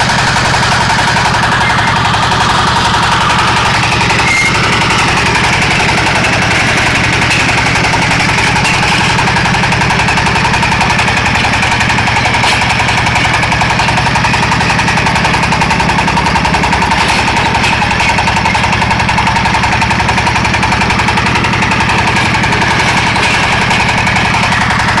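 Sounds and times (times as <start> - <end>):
diesel engine chugging: 0.0 - 25.0
steady whine: 0.8 - 25.0.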